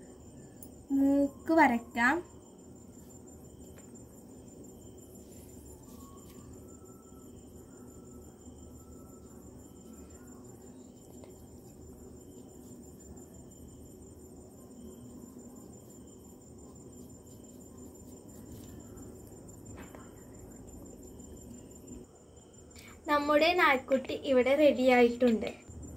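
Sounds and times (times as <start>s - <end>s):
crickets chirping: 0.0s - 25.9s
low room hum: 0.0s - 25.9s.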